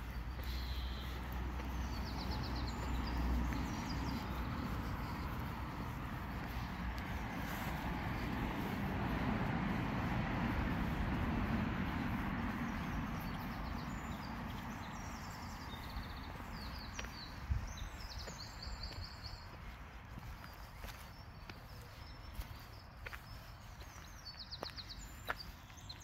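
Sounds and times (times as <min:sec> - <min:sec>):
songbird chirping and trilling: 0:00.0 - 0:09.2, 0:11.7 - 0:26.0
road traffic passing: 0:00.0 - 0:26.0.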